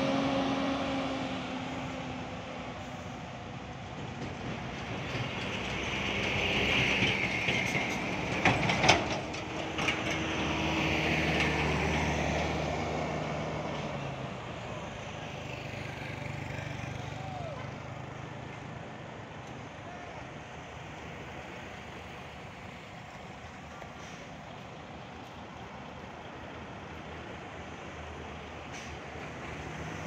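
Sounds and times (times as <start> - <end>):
diesel engine humming: 0.0 - 30.0
heavy trucks passing: 0.0 - 30.0.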